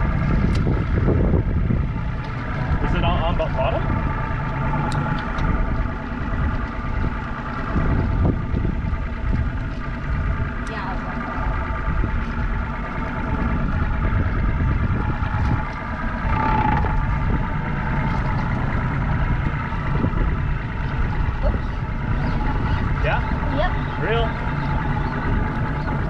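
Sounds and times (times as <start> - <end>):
boat motor running: 0.0 - 26.0
low rumble: 0.0 - 26.0.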